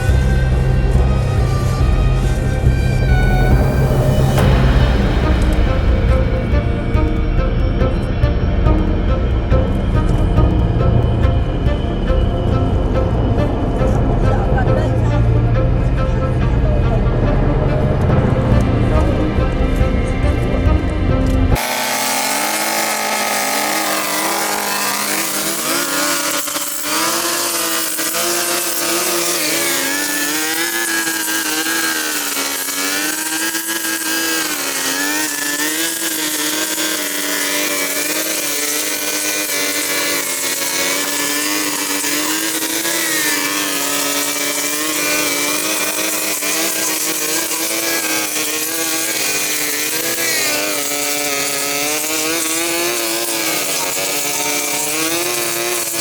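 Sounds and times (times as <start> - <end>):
small petrol engine revving: 0.0 - 56.0.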